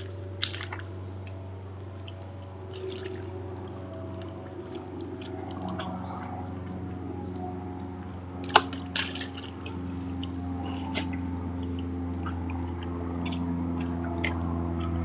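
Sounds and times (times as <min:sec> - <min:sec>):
hooves squelching in mud: 0:00.0 - 0:15.0.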